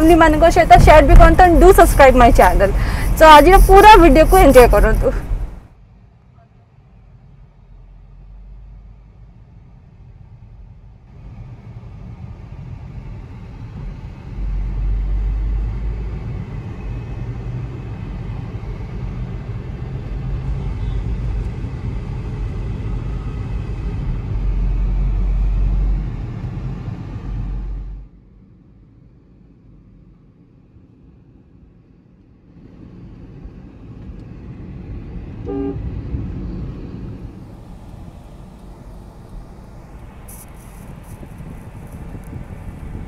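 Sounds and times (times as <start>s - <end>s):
car road noise rumble: 0.0s - 43.0s.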